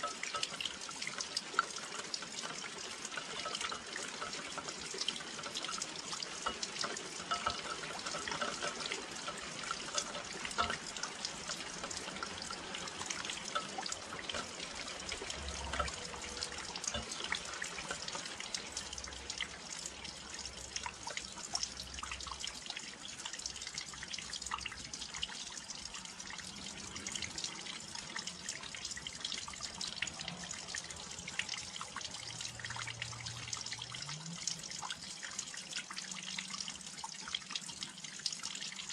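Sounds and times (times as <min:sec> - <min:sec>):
rain pattering on windowsill: 0:00.0 - 0:38.9.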